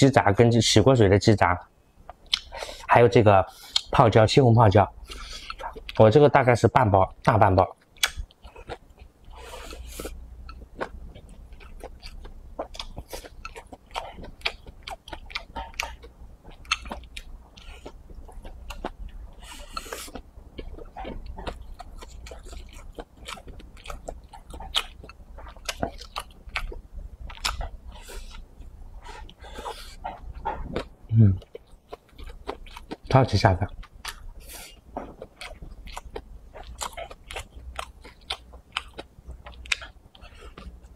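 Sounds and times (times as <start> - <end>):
person chewing crunchy food: 5.0 - 6.0, 7.7 - 40.9.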